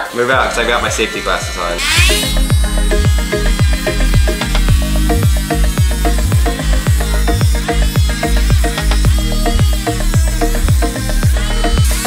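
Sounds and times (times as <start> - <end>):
electronic dance music: 0.9 - 12.0.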